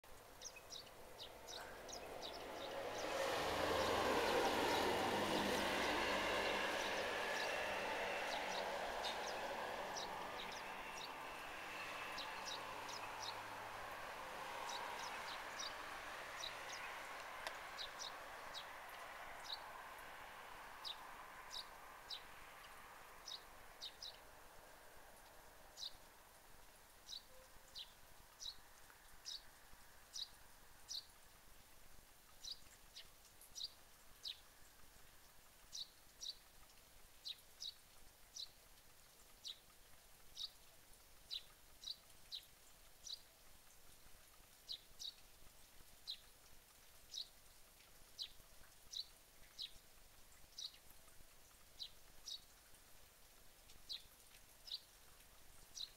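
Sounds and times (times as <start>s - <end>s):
faint background hiss: 8.3s - 55.9s.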